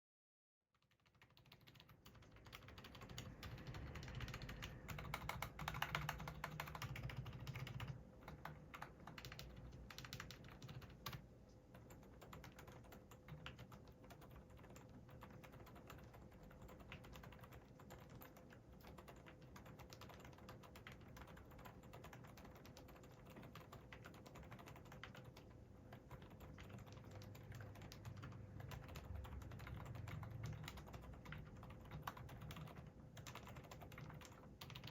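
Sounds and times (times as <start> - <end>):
typing on mechanical keyboard: 0.8 - 34.9.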